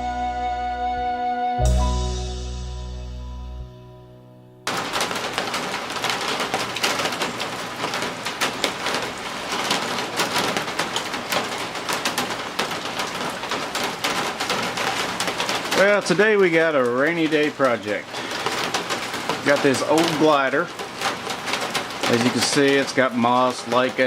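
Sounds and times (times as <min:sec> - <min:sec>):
raindrops hitting a surface: 0:04.6 - 0:24.0
heavy rain falling: 0:04.7 - 0:24.0.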